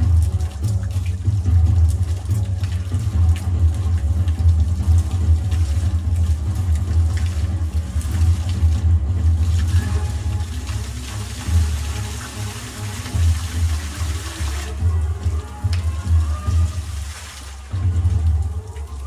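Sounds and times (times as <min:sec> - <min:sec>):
fountain water spraying and splashing: 0:00.0 - 0:19.0
music playing: 0:00.0 - 0:19.0
steady low rumble: 0:00.0 - 0:19.0.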